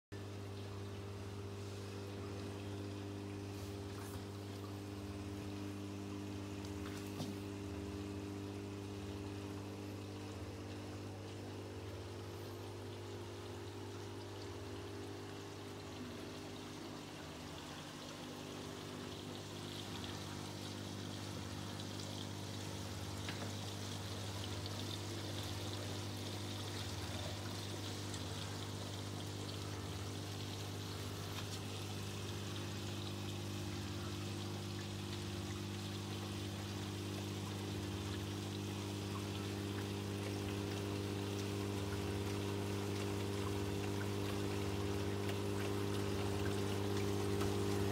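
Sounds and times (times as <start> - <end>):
aquarium pump hum: 0.1 - 47.9
water pouring and trickling: 0.2 - 47.9.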